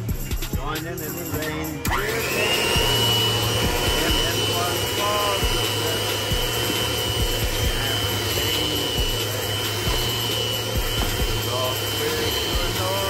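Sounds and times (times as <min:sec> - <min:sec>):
electric hand mixer running: 0:00.0 - 0:13.0.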